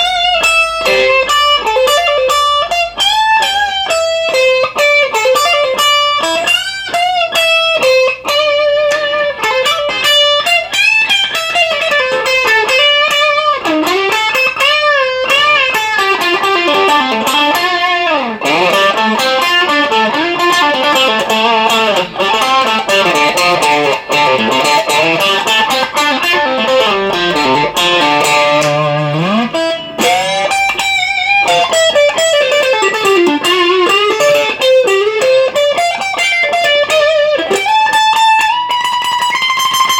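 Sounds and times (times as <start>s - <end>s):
overdriven electric guitar lead: 0.0s - 39.9s.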